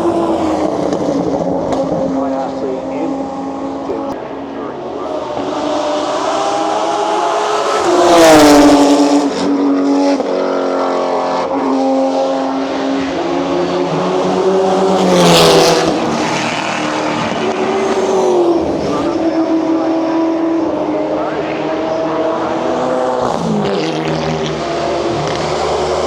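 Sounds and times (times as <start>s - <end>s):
race cars passing at speed: 0.0s - 26.0s.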